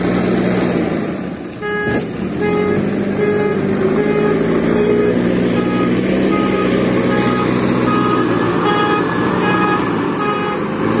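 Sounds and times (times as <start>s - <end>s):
diesel engine running: 0.0s - 11.0s
short high beeps: 1.6s - 10.6s.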